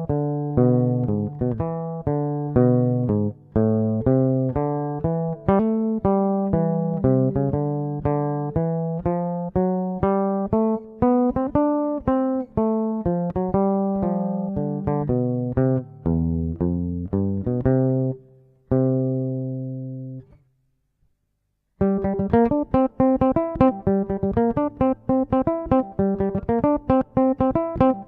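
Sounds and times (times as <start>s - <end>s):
plucked bass ukulele melody: 0.0s - 20.4s, 21.8s - 28.0s.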